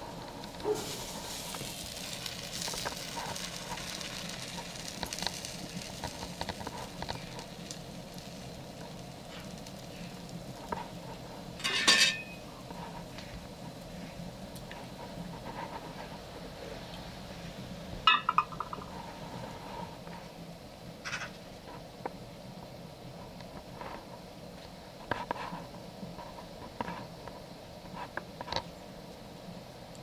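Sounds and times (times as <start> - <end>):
crackling wood fire: 0.0 - 30.0
sausages sizzling on a grill: 0.0 - 30.0.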